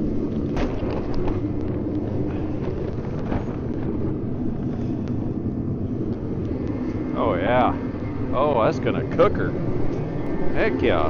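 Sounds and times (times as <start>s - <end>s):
forced-air heater blowing: 0.0s - 11.0s.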